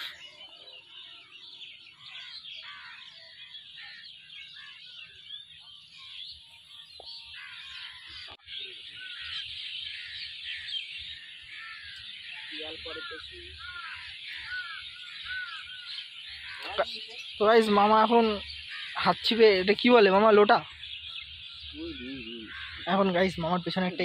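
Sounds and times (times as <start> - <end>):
many birds chirping: 0.0 - 24.0.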